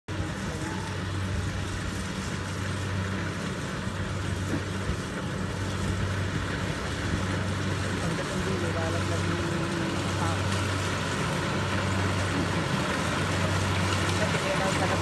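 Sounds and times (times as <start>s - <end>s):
harvester engine humming: 0.1s - 15.0s.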